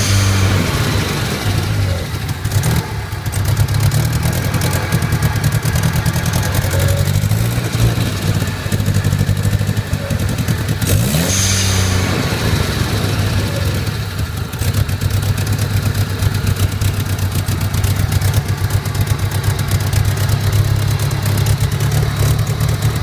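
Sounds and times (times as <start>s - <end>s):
car engine idling roughly: 0.0s - 23.0s.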